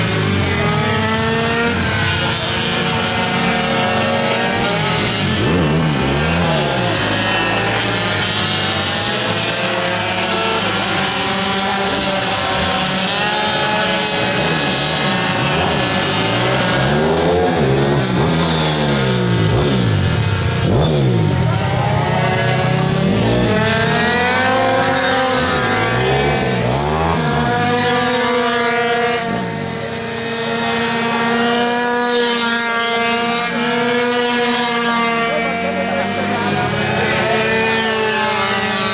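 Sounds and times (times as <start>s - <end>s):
pocket bike engines racing: 0.0s - 38.9s.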